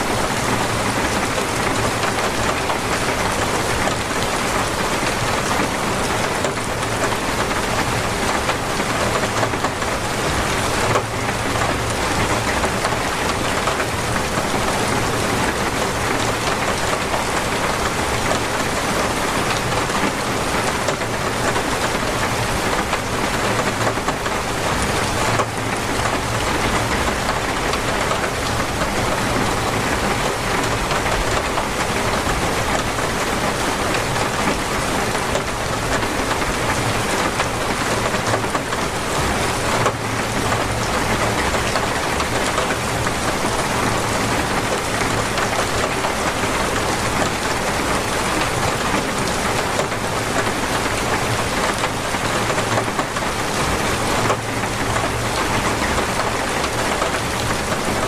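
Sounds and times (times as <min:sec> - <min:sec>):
torrential rain falling: 0:00.0 - 0:58.0.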